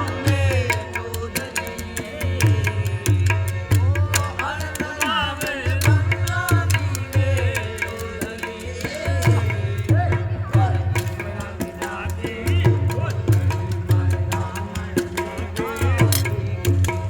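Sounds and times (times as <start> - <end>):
sharp clicking percussion: 0.0 - 17.0.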